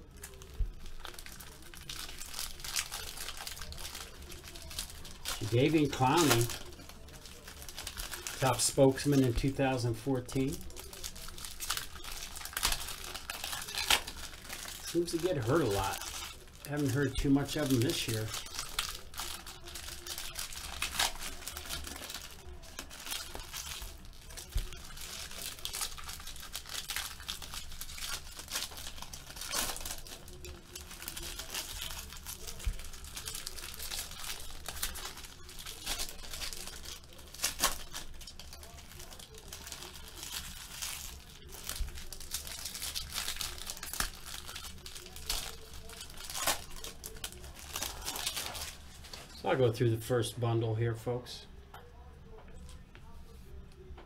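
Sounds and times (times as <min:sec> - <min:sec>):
card packaging and plastic crinkling: 0:00.0 - 0:51.0.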